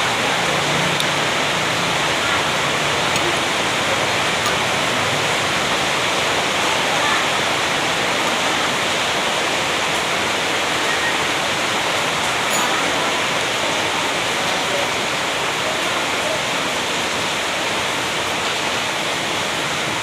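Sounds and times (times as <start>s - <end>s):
loud steady rushing noise: 0.0s - 18.1s.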